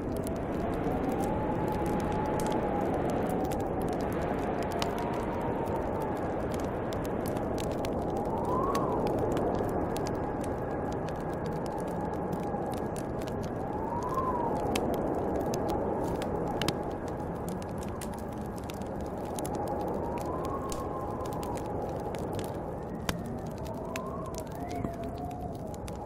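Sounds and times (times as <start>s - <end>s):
howling wind whistle: 0.0s - 26.0s
wood fire crackling: 0.0s - 26.0s.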